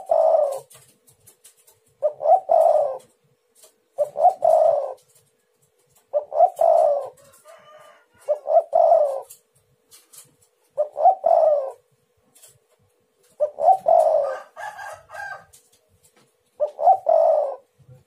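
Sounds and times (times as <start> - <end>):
dove cooing: 0.0 - 0.9, 1.5 - 12.5, 13.2 - 15.7, 16.6 - 18.0
faint steady hum: 0.0 - 18.0.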